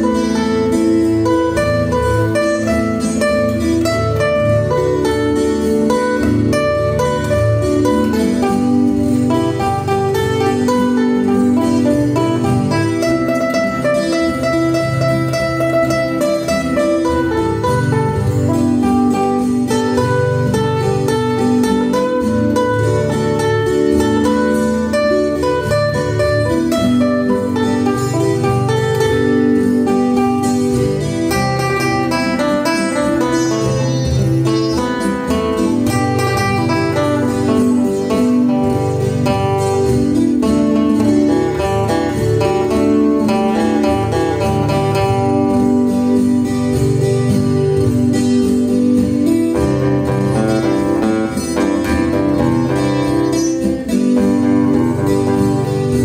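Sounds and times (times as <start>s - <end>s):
plucked guitar melody: 0.0s - 56.0s.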